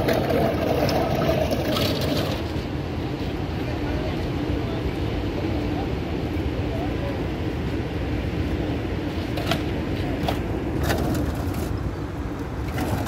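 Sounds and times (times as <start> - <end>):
machinery rumbling: 0.0 - 13.0.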